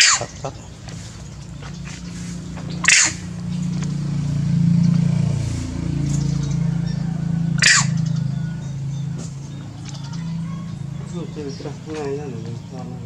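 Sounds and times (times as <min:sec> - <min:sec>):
motor engine running: 0:00.0 - 0:13.0.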